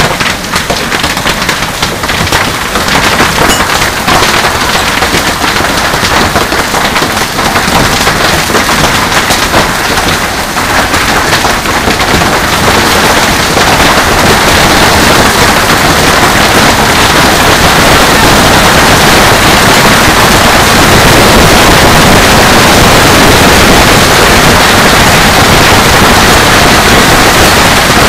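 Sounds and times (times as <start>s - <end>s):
heavy hail clattering: 0.0s - 28.0s.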